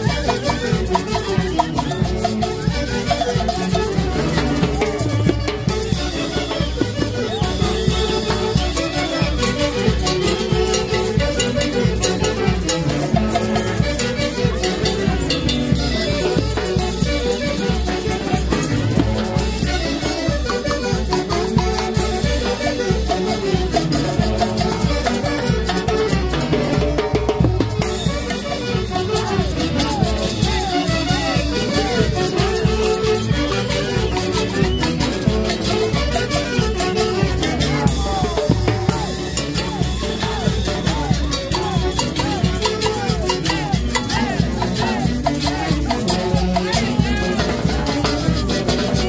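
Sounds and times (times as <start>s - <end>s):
fast even beat: 0.0s - 49.0s
saxophones and clarinets melody: 0.0s - 49.0s.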